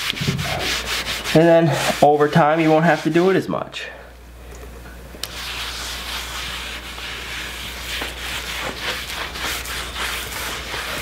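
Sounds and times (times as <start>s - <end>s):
hand rubbing wooden board: 0.0s - 3.4s, 5.2s - 11.0s.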